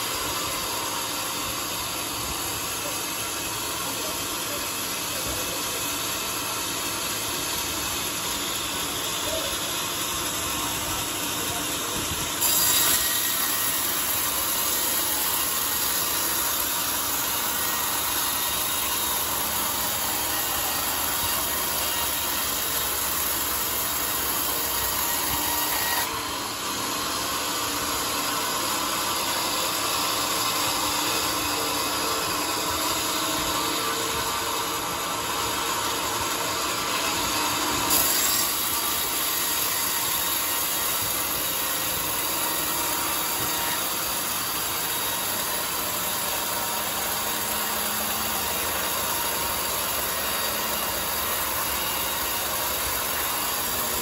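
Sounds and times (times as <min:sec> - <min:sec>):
band saw cutting through log: 0:00.0 - 0:54.0.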